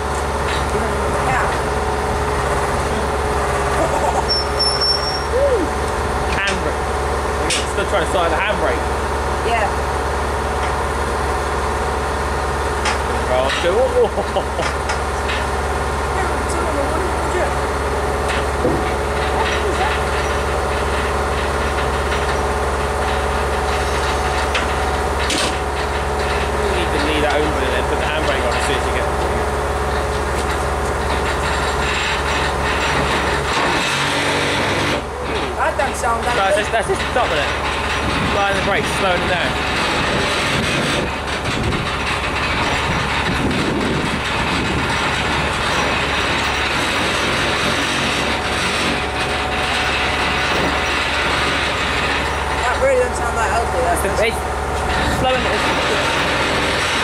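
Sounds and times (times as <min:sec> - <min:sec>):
bystanders talking: 0:00.0 - 0:33.5, 0:35.0 - 0:43.2, 0:46.8 - 0:57.0
diesel engine idling: 0:00.0 - 0:57.0
locomotive rolling with brakes: 0:00.0 - 0:57.0
low hum: 0:00.0 - 0:57.0.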